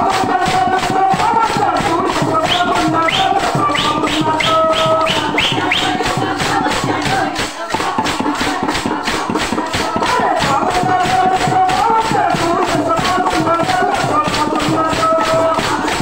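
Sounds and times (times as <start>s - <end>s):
wooden clappers beating: 0.0s - 16.0s.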